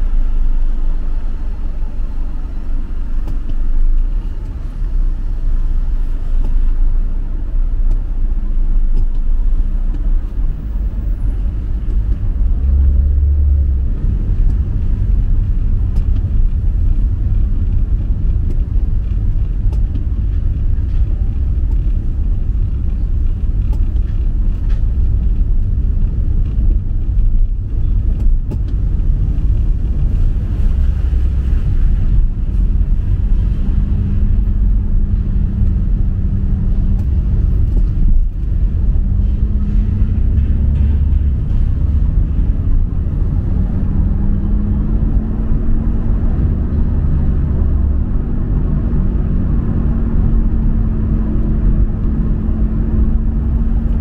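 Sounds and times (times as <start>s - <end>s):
low rumble of road vehicles: 0.0s - 54.0s.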